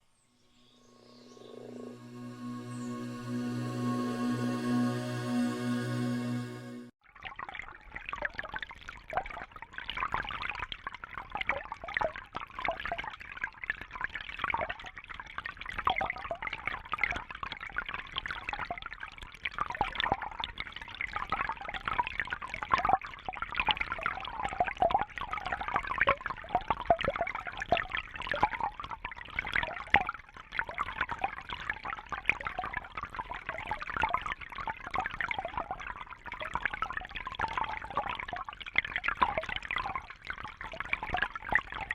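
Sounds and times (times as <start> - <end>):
water trickling and bubbling: 7.0 - 41.9.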